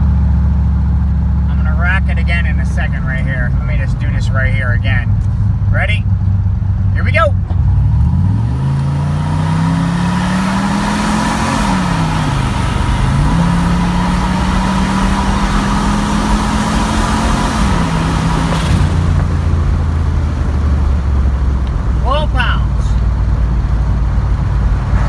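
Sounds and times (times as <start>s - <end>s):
engine pulling under full throttle: 0.0s - 25.0s.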